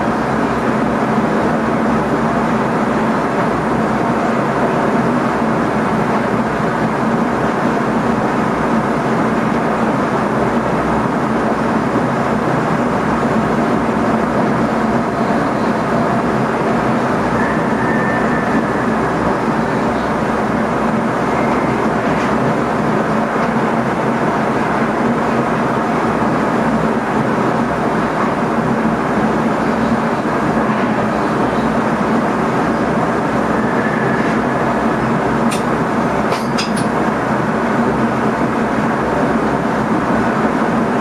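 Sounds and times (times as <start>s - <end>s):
train cab running rumble: 0.0s - 41.0s.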